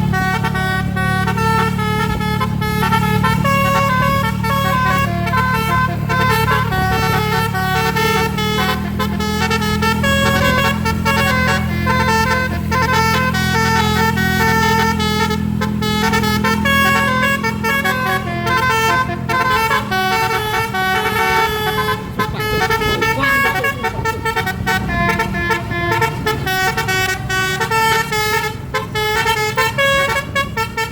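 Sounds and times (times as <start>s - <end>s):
multi-tone bus horn tune: 0.0s - 30.9s.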